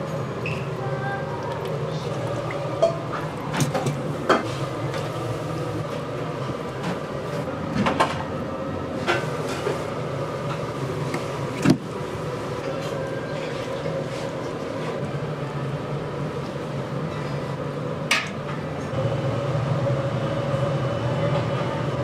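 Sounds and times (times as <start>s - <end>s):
kitchen hum: 0.0s - 22.0s.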